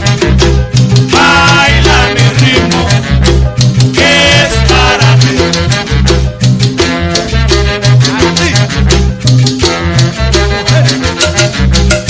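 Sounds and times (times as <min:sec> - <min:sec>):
percussion strokes: 0:00.0 - 0:12.0
repeating bass line: 0:00.0 - 0:12.0
instruments holding notes: 0:00.1 - 0:12.0.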